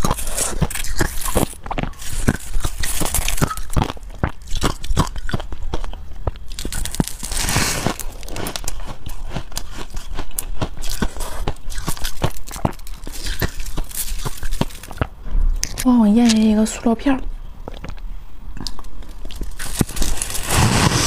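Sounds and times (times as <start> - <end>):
crunchy ice chewing: 0.0 - 16.5, 17.6 - 20.6.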